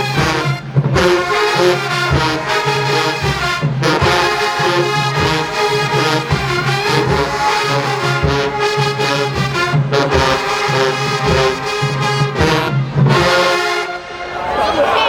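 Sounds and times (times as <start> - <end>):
drum strokes: 0.0 - 14.4
brass harmonies: 0.0 - 15.0.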